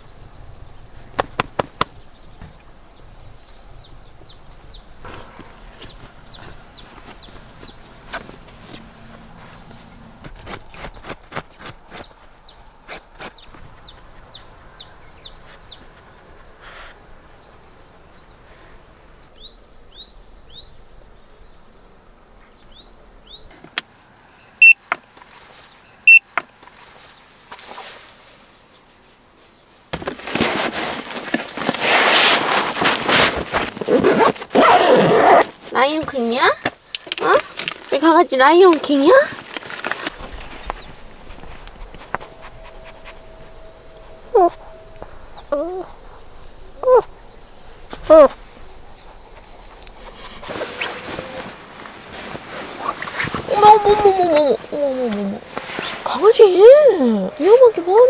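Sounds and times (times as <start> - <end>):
small birds chirping: 0.0 - 30.0, 33.0 - 58.0.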